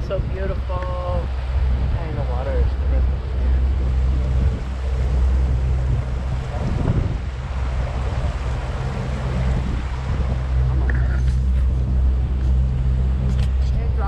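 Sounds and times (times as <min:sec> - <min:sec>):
boat motor droning: 0:00.0 - 0:14.0
water rushing along hull: 0:00.0 - 0:14.0
wind on microphone: 0:00.0 - 0:14.0.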